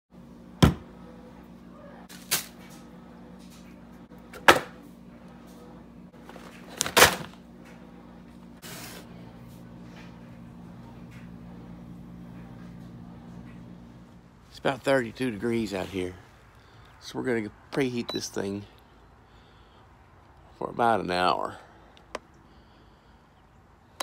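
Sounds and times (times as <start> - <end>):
low hum: 0.2 - 20.6.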